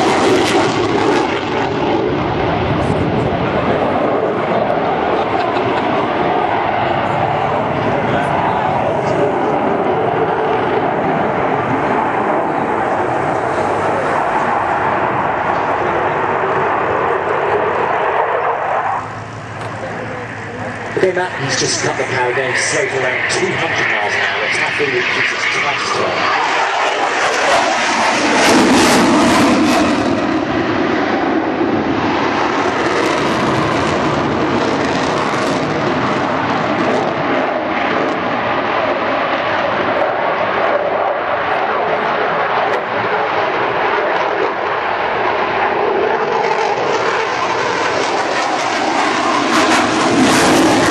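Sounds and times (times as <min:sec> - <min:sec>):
jet engine roar: 0:00.0 - 0:50.9.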